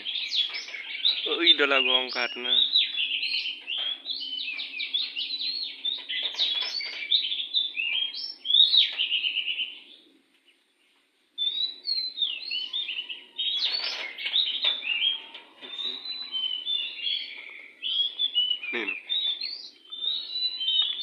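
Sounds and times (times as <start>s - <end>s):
bird singing whistled phrases: 0.0s - 9.9s, 11.4s - 21.0s.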